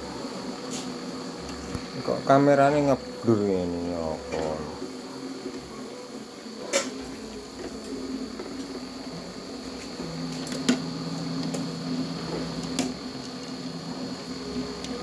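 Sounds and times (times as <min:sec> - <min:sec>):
motor hum with high whine: 0:00.0 - 0:15.0.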